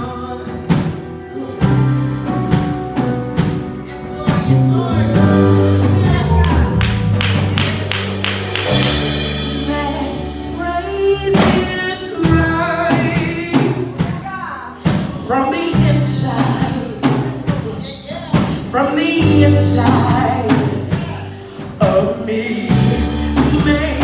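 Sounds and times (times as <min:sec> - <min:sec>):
church band playing gospel music: 0:00.0 - 0:24.0
voices singing: 0:00.0 - 0:24.0.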